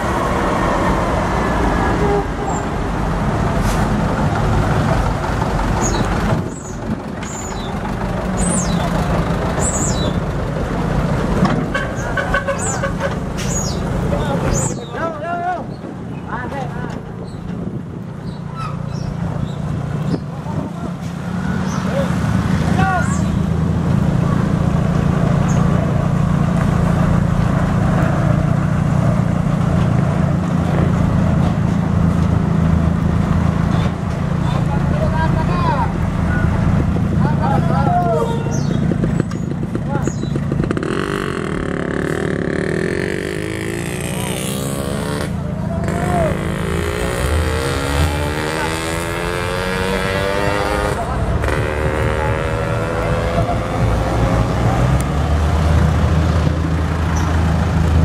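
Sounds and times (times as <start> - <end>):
diesel truck engines droning: 0.0 - 58.0.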